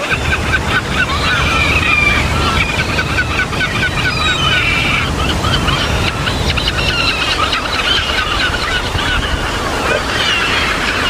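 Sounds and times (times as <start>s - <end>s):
birds chirping: 0.0s - 11.0s
steady low rumble: 0.0s - 11.0s.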